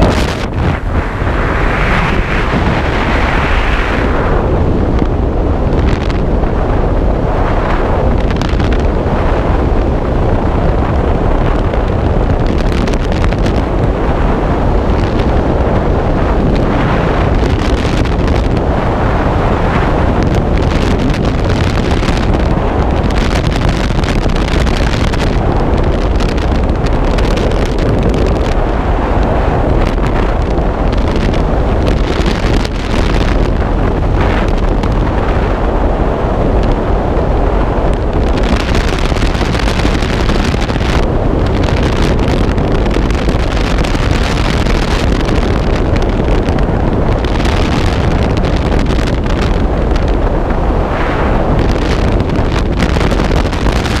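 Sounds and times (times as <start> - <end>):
freefall wind rushing over microphone: 0.0 - 54.0.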